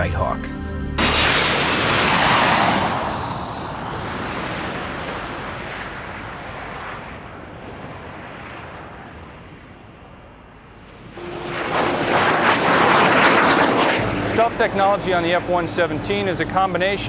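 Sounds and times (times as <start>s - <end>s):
jet aircraft roar flying past: 1.0s - 17.0s.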